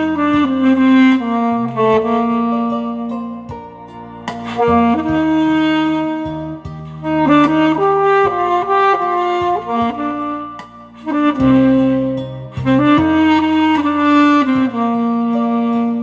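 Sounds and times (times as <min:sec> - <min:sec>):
alto saxophone melody: 0:00.0 - 0:16.0
backing accompaniment with bass: 0:00.0 - 0:16.0.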